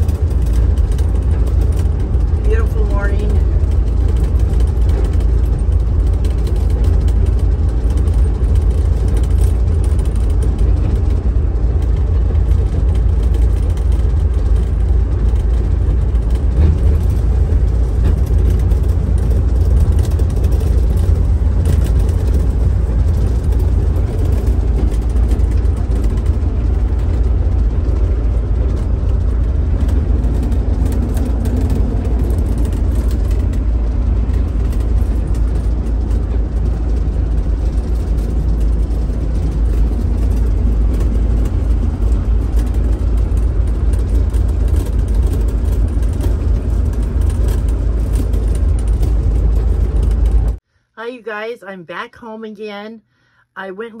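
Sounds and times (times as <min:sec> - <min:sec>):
engine and tyre rumble: 0:00.0 - 0:50.9.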